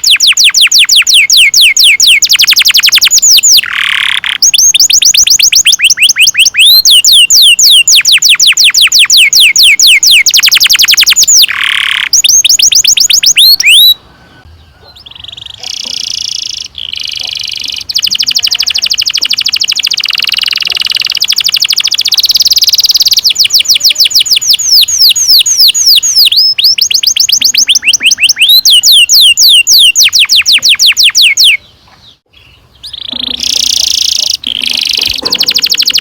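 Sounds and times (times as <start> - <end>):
canary singing trills: 0.0 - 36.0.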